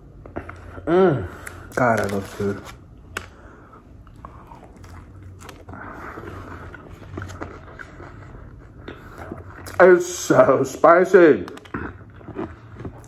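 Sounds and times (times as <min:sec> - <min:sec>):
person chewing food: 0:00.1 - 0:09.8, 0:11.4 - 0:13.0.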